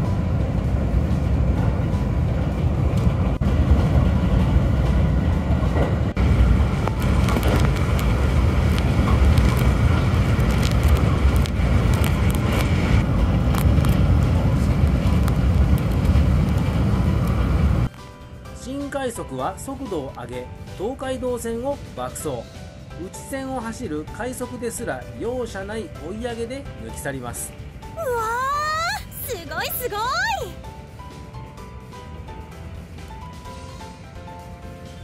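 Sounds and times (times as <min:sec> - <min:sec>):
electric train rumbling: 0:00.0 - 0:35.0.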